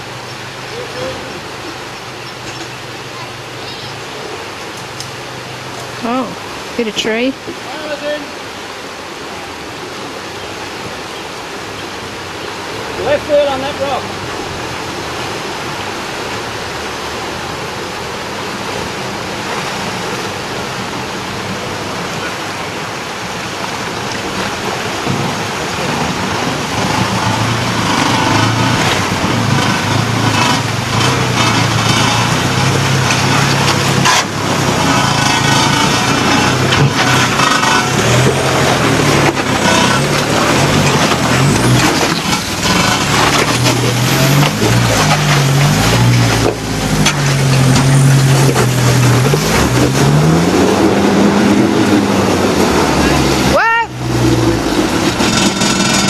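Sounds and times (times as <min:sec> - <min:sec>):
rushing water: 0:00.0 - 0:56.0
truck engine labouring: 0:09.4 - 0:56.0.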